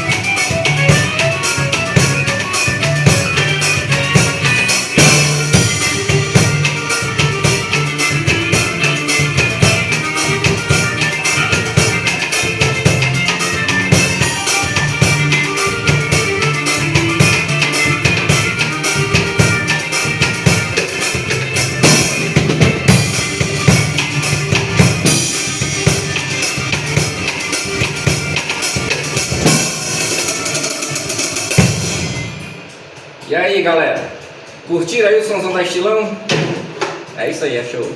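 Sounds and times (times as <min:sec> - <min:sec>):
recorded band music: 0:00.0 - 0:33.4
drum kit playing: 0:00.0 - 0:37.9.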